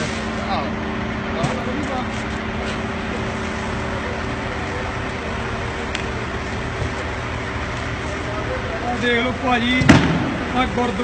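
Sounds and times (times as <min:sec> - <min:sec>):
machinery engine rumble: 0:00.0 - 0:11.0.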